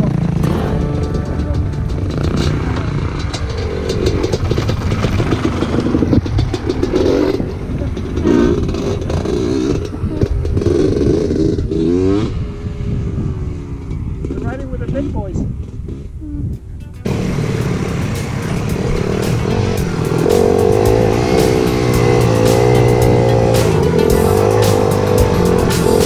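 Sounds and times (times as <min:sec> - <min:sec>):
engine revving: 0:00.0 - 0:16.2, 0:17.0 - 0:26.0
dirt bike engines idling: 0:00.0 - 0:26.0.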